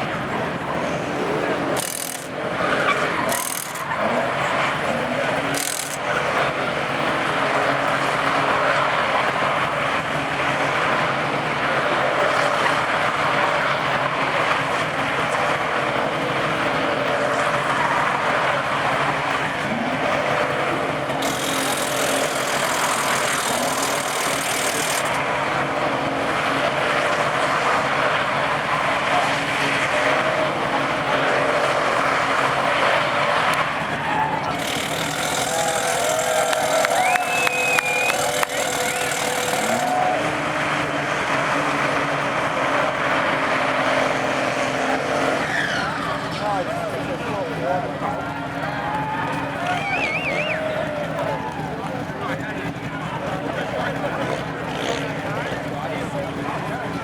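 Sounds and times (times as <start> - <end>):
diesel truck engine roaring: 0.0 - 57.0
tires spinning: 0.0 - 57.0.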